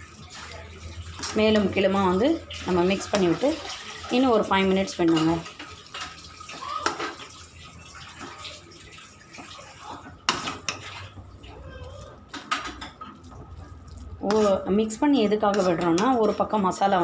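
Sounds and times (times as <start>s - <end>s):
spoon scraping in pot: 0.4s - 4.3s, 4.9s - 6.2s, 6.8s - 17.0s.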